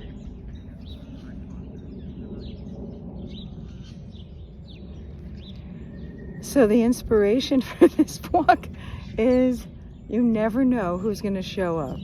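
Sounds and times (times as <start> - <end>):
low outdoor rumble: 0.0 - 12.0
small birds chirping: 0.0 - 12.0.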